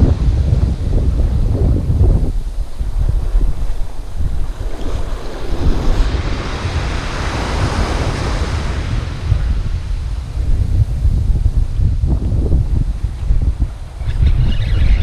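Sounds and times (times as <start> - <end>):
waves crashing on beach: 0.0 - 12.1
wind noise on microphone: 0.0 - 15.0.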